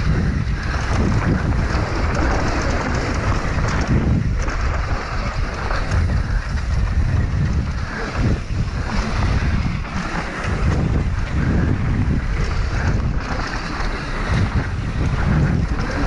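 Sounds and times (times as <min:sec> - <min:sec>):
tyres rolling over dirt: 0:00.0 - 0:16.0
wind buffeting microphone: 0:00.0 - 0:16.0.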